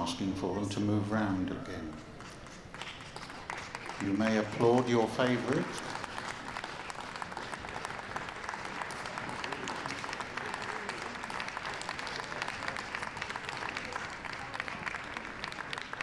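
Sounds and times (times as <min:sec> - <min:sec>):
audience applauding: 0:02.2 - 0:16.0.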